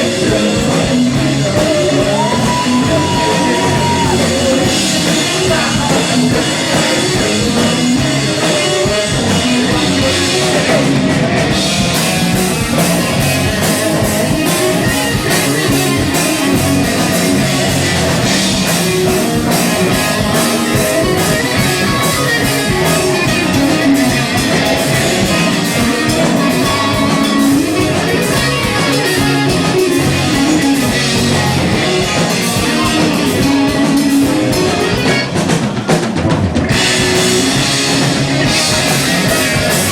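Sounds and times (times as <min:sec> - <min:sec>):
distorted electric guitar: 0:00.0 - 0:39.9
drum kit with cymbals: 0:00.0 - 0:39.9
live rock band: 0:00.0 - 0:39.9.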